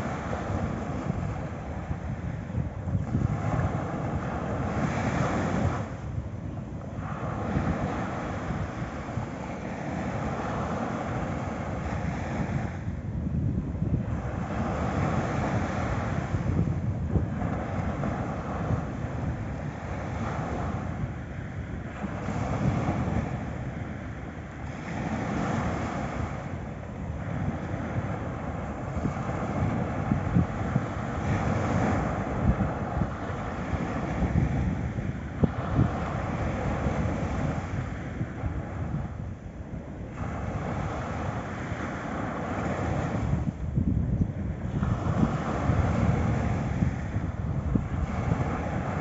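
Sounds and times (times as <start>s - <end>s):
small waves breaking on beach: 0.0s - 49.0s
wind rumbling on microphone: 0.0s - 49.0s.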